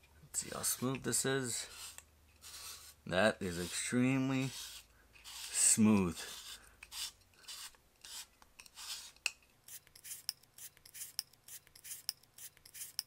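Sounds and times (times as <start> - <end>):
blade rasping through potato: 1.6 - 13.0.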